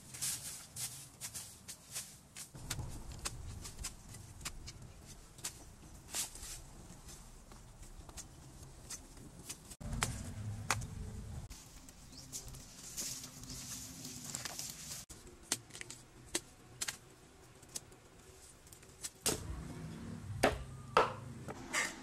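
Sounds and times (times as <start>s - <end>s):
rustling and scraping in dry leaves: 0.0s - 19.2s.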